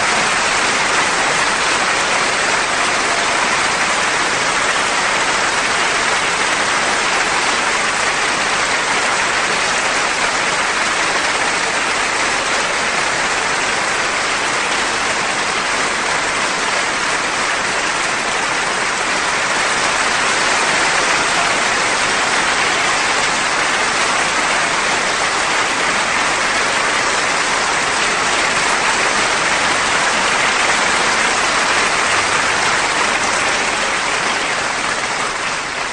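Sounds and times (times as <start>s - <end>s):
audience applauding: 0.0s - 35.9s.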